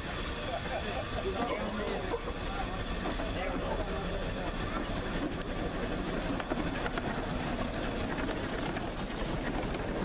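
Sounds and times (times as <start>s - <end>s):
steam train passing: 0.0s - 10.0s.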